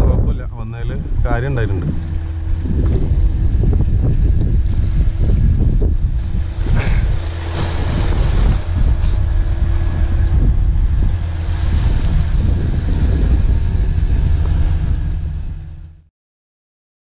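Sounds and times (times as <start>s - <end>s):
boat engine drone: 0.0s - 16.1s
wind rumbling on microphone: 0.0s - 16.1s
waves washing against rocks: 1.4s - 15.4s.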